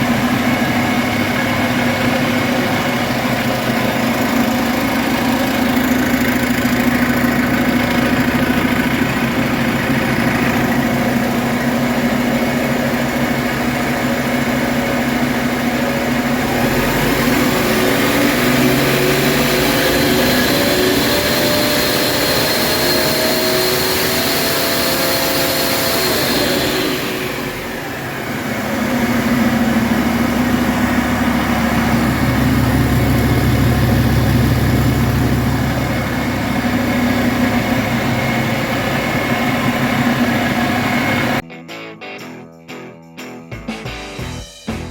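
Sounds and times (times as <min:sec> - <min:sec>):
diesel engine idling and revving: 0:00.0 - 0:41.4.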